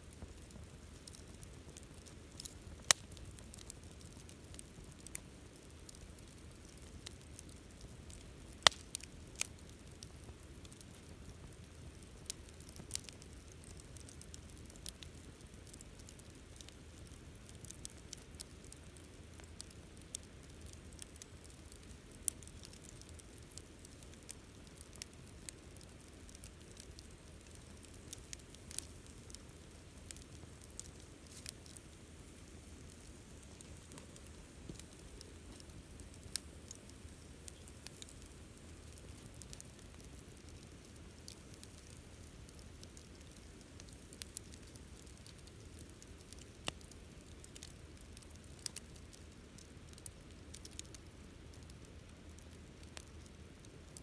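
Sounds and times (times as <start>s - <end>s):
campfire crackling and popping: 0.0s - 54.0s
low rumble of burning: 0.0s - 54.0s.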